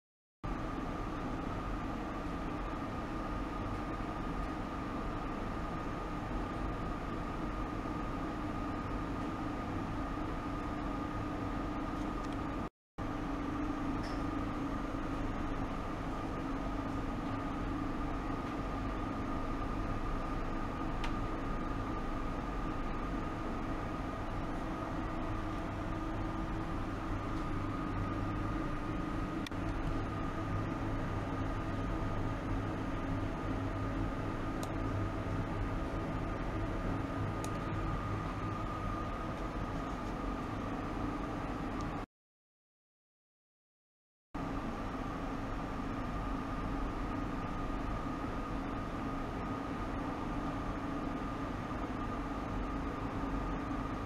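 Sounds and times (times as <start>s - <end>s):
steady hum and hiss: 0.5s - 42.0s, 44.4s - 54.0s.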